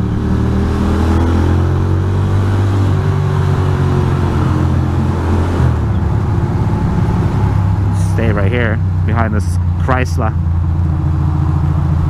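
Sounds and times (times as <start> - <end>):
motorcycle engine running: 1.5 - 12.0.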